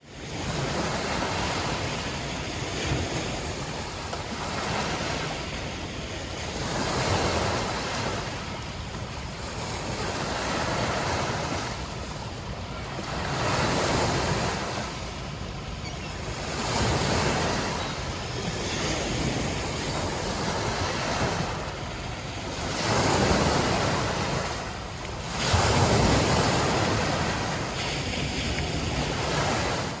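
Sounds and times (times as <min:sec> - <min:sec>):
gentle waves lapping: 0:00.1 - 0:30.0.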